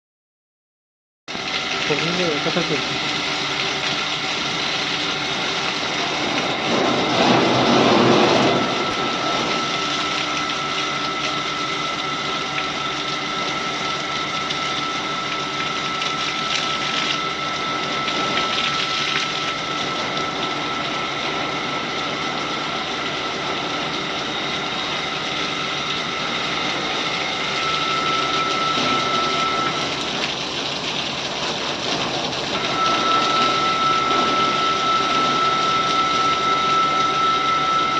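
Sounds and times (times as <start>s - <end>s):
motor whine: 1.3s - 37.9s.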